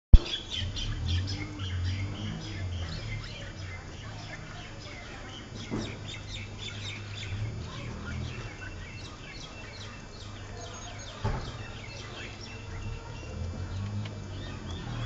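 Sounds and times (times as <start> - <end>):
birds chirping: 0.1 - 15.0
low steady hum: 0.2 - 15.0.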